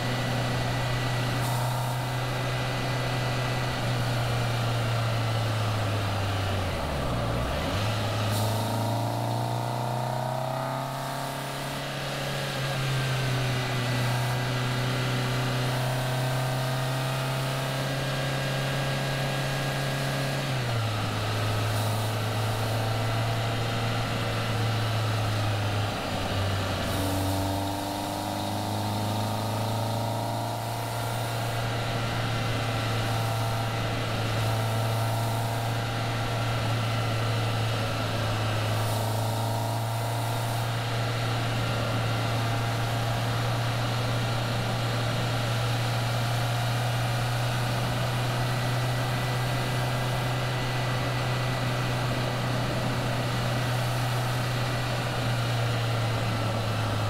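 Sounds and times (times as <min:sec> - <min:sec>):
car engine running: 0:00.0 - 0:57.0
road and wind noise: 0:00.0 - 0:57.0.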